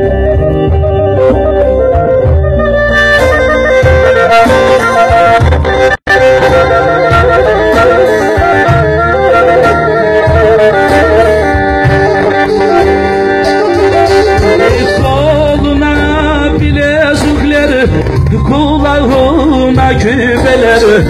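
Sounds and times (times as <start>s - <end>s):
amplified folk music melody: 0.0s - 21.0s.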